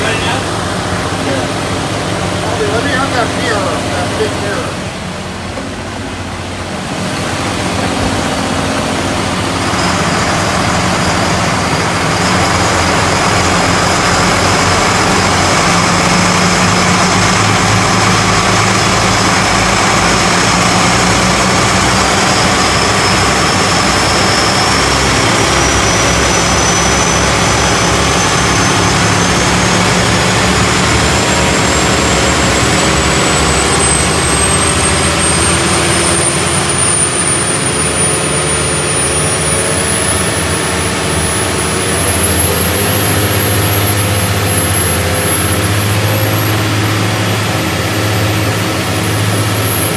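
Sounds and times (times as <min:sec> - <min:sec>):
high-pitched whine: 0:00.0 - 0:49.9
marine diesel engines running: 0:00.0 - 0:49.9.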